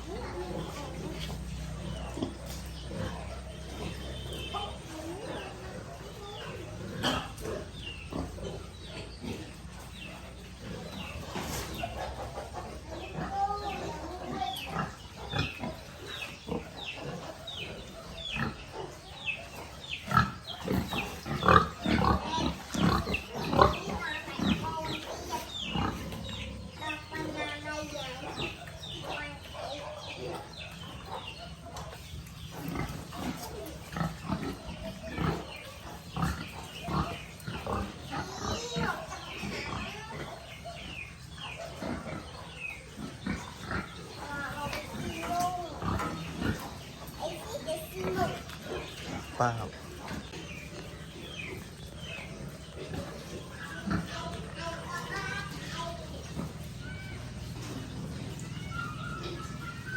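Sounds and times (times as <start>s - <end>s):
piglets grunting and squeaking: 0.0s - 59.9s.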